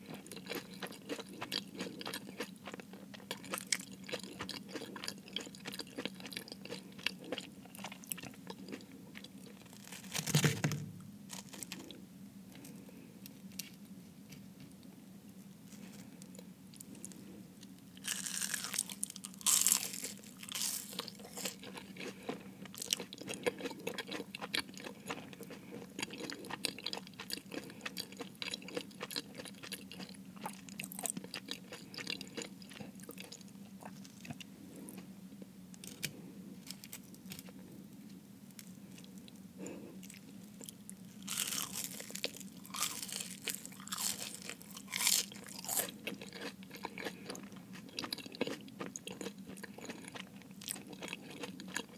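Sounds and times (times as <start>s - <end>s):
soft chewing: 0.0s - 10.0s, 11.3s - 51.9s
pastry crust crunching: 0.1s - 12.0s, 18.0s - 35.0s, 35.8s - 51.9s.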